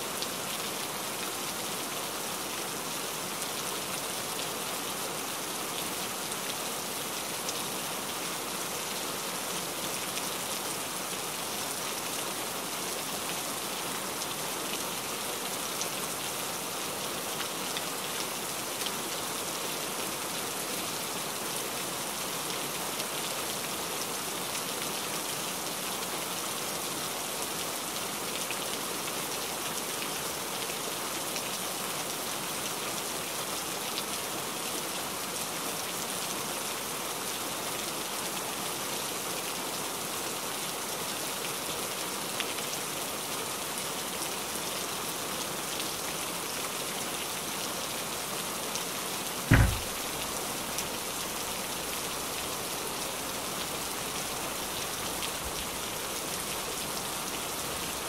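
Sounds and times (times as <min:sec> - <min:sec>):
rain on a surface: 0:00.0 - 0:58.0.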